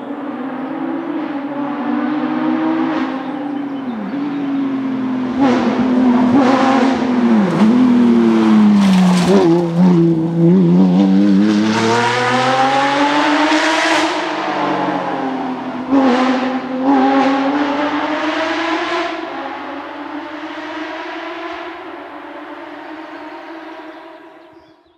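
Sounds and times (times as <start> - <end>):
rally car engine revving: 0.0 - 24.7.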